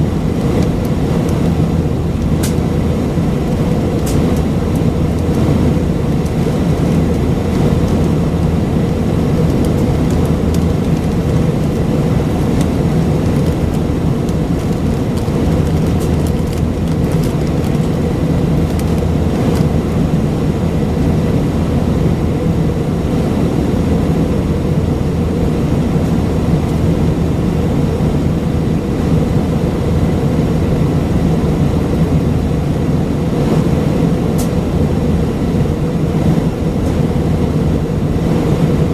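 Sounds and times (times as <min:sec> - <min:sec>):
aircraft cabin engine rush: 0:00.0 - 0:38.9.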